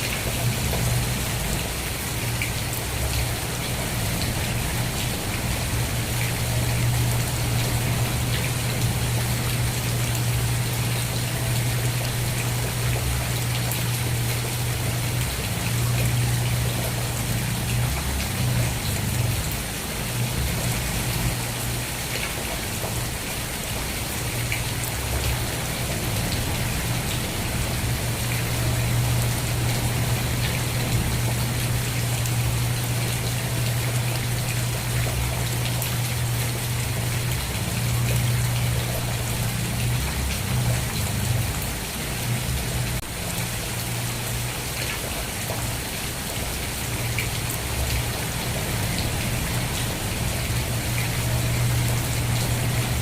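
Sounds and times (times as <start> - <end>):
continuous low rumble: 0.0 - 53.0
rain pattering: 0.0 - 53.0.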